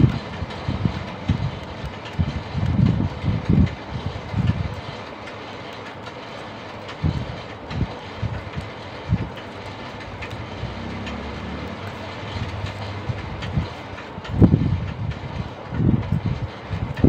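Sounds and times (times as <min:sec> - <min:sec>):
steady background rumble: 0:00.0 - 0:17.0
wire light ticks: 0:00.0 - 0:17.0.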